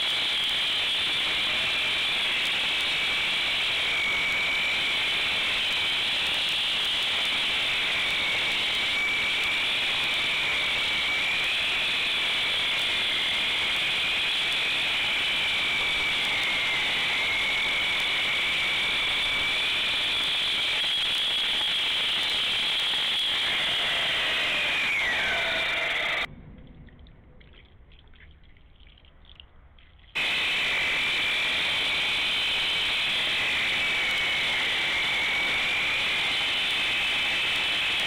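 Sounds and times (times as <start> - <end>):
concrete saw cutting concrete: 0.0 - 26.3, 30.2 - 38.0
saw motor winding down: 0.0 - 26.3, 30.2 - 38.0.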